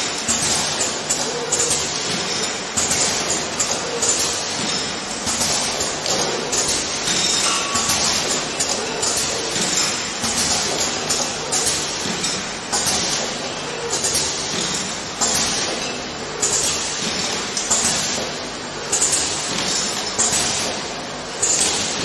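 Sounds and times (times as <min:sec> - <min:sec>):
machine mechanical clatter: 0:00.0 - 0:22.0.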